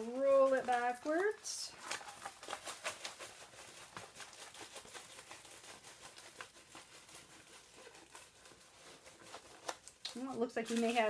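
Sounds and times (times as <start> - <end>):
plastic cover rustling and crinkling: 0.0 - 11.0.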